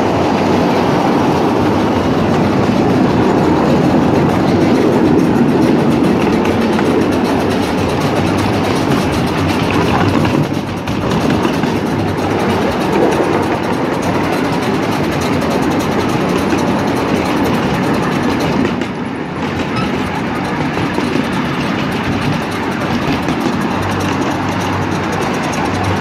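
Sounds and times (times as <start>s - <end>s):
small locomotive engine: 0.0s - 26.0s
train wheels clattering on rails: 0.0s - 26.0s.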